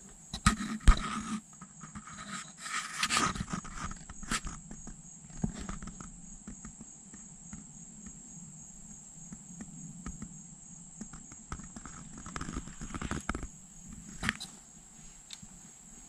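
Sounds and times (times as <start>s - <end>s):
insects trilling: 0.0s - 16.0s
light ticks and rustles: 0.1s - 16.0s.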